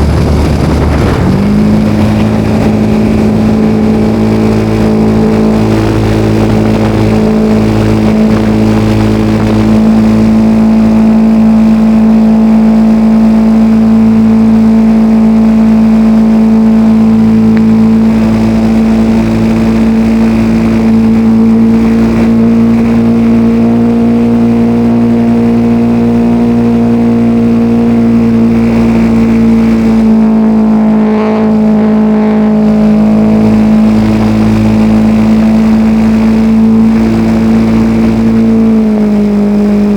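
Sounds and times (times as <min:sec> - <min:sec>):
model airplane engine drone: 0:00.0 - 0:39.9.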